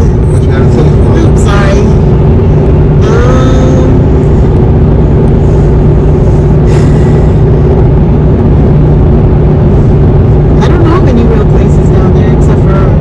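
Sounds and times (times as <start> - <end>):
car engine hum: 0.0 - 13.0
road rumble: 0.0 - 13.0.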